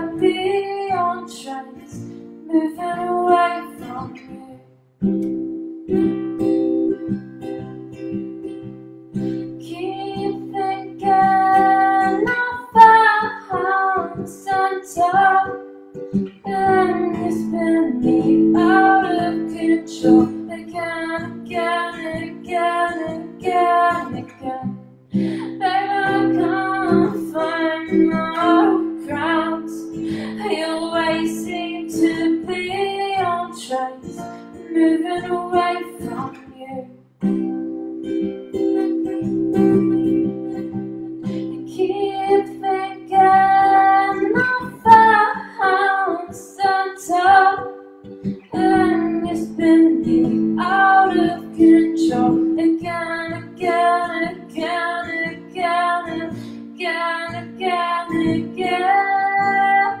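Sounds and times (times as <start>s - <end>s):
woman singing: 0.0s - 4.7s, 9.6s - 37.0s, 41.2s - 60.0s
acoustic guitar: 0.0s - 60.0s.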